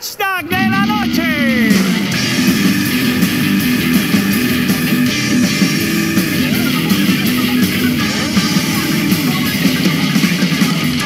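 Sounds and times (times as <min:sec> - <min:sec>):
stepping bass riff: 0:00.4 - 0:11.0
rock music with guitar: 0:00.5 - 0:11.0.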